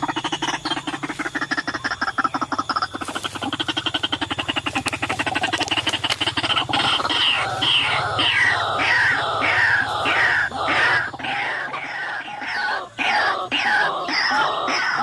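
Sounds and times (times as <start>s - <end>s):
waterhen calling rapidly: 0.0s - 15.0s.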